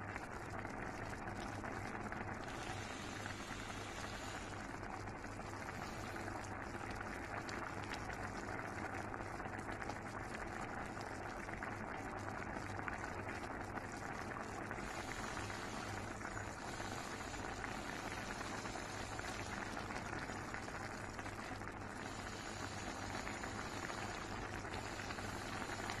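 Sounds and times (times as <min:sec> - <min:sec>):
pot simmering bubbling and crackling: 0:00.0 - 0:26.0.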